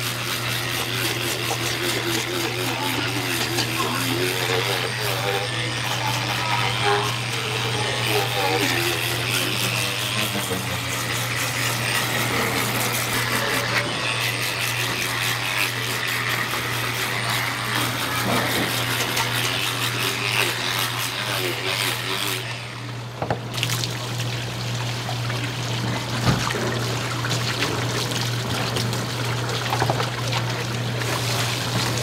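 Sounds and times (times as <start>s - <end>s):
electric fish scaler scraping: 0.0s - 32.0s.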